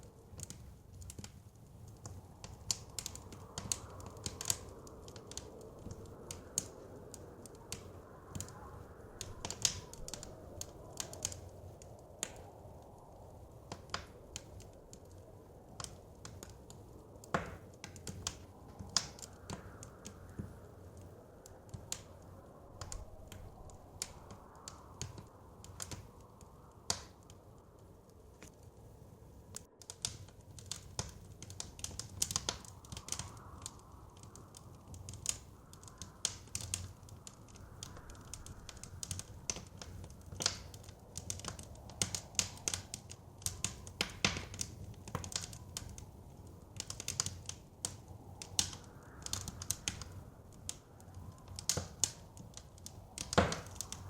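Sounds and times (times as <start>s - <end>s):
soft low snowstorm wind: 0.0s - 54.0s
wood fire crackling and popping: 0.0s - 54.0s.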